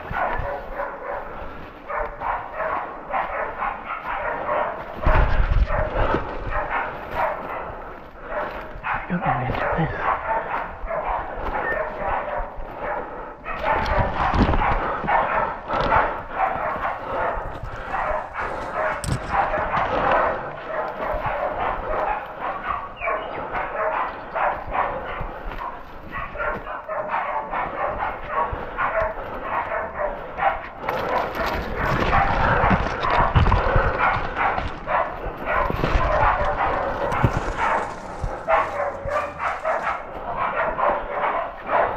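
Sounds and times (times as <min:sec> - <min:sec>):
dogs barking rapidly: 0:00.0 - 0:41.9.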